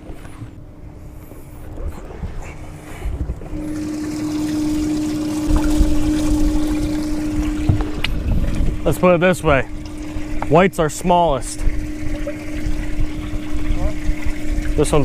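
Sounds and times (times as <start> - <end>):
aerator pump humming: 0.0 - 15.0
water spraying and churning: 0.0 - 15.0.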